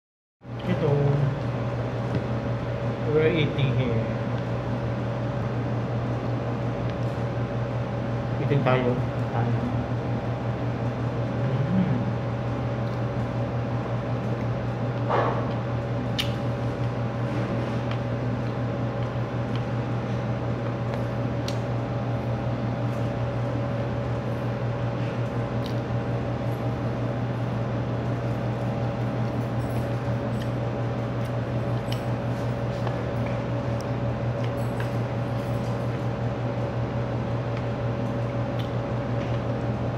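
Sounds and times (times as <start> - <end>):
air conditioner humming: 0.4 - 39.9.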